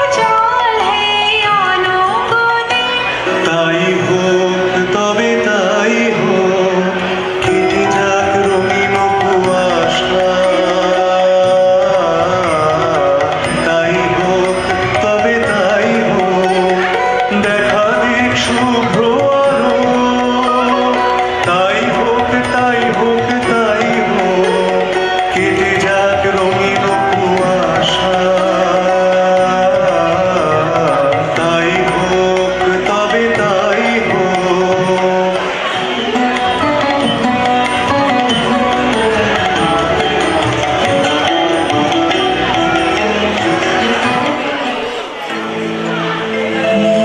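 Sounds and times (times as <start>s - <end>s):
melody with percussion: 0.0s - 47.0s.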